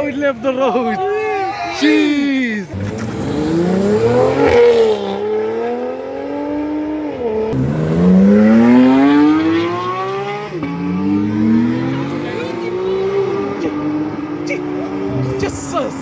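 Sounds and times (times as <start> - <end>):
sports car engine revving: 2.7 - 16.0.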